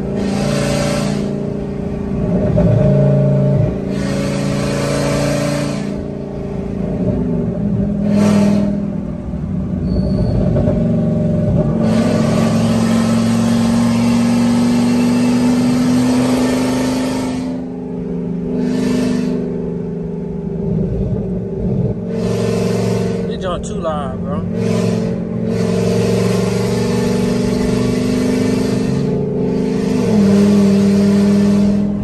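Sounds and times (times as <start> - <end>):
road noise rushing: 0.0 - 32.0
truck engine drone: 0.0 - 32.0.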